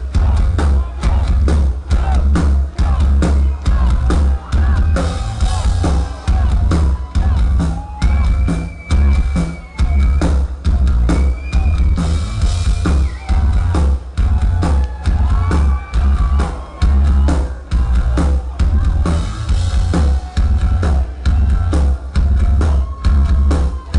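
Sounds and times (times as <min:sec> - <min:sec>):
live rock band playing: 0:00.0 - 0:23.9
pounding kick drum: 0:00.0 - 0:23.9.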